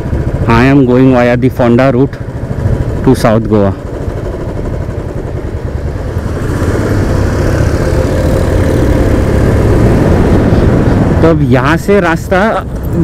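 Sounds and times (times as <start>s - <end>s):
single-cylinder motorcycle engine: 0.0s - 13.0s.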